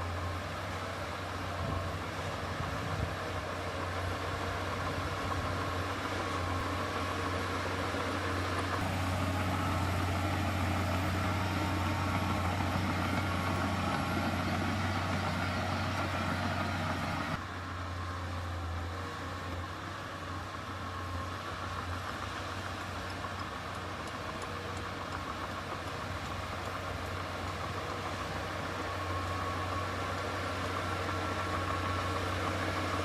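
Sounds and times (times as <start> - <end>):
heavy diesel engine humming: 0.0 - 33.0.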